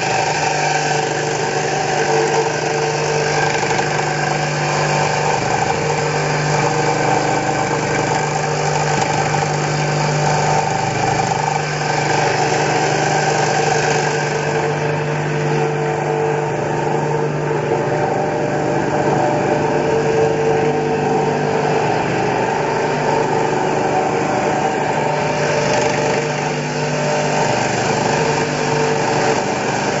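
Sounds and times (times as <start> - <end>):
aerator fan humming: 0.0 - 30.0.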